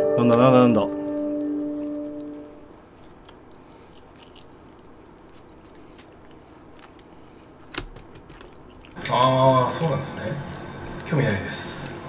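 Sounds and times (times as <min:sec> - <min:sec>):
person chewing crunchy food: 0:00.9 - 0:12.0.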